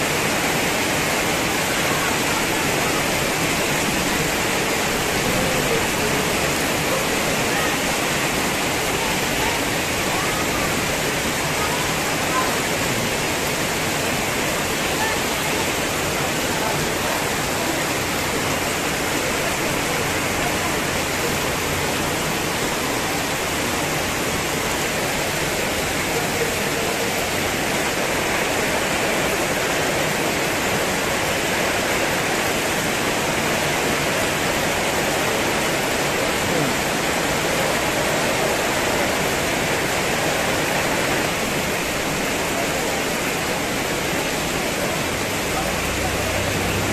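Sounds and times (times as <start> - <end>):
heavy rain on wet pavement: 0.0 - 46.9.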